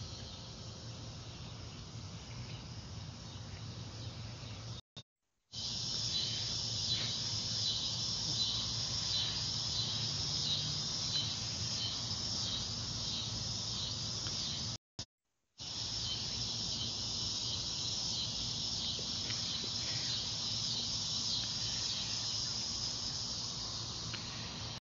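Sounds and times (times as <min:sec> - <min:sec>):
insects chirring: 0:00.0 - 0:04.8, 0:05.6 - 0:14.8, 0:15.6 - 0:24.8.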